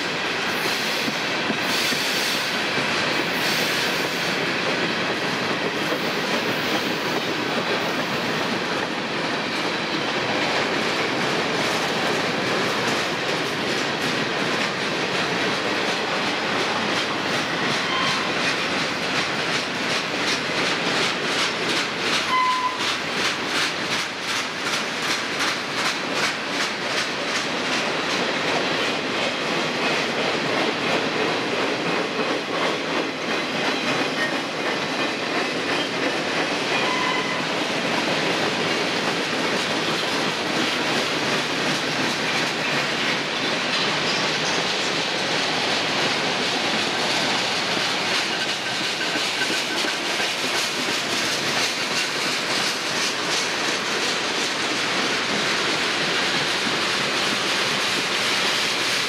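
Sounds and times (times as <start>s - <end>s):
train wheels rumbling on rail: 0.0s - 59.0s
wheels clicking over rail joints: 4.7s - 59.0s.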